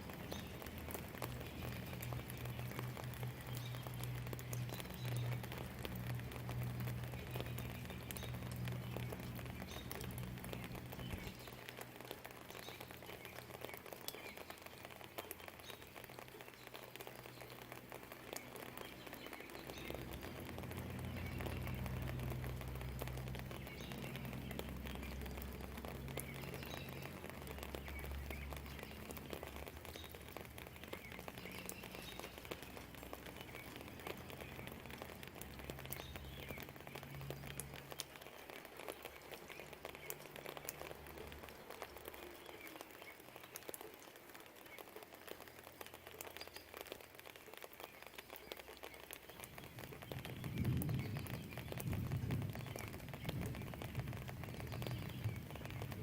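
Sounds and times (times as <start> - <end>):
raindrops pattering and dripping: 0.0 - 56.0
steady rain: 0.0 - 56.0.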